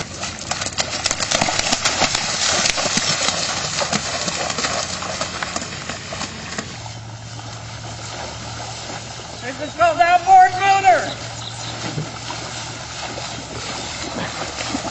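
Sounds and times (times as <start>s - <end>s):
feet splashing through shallow water: 0.0s - 14.9s
steady low hum: 0.0s - 14.9s.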